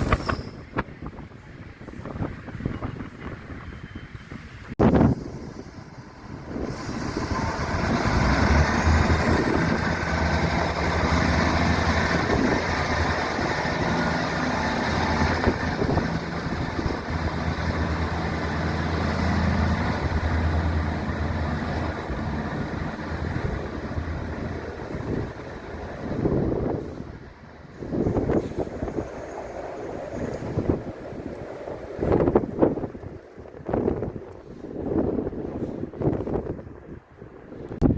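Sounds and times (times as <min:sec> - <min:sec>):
train humming: 0:00.0 - 0:37.2.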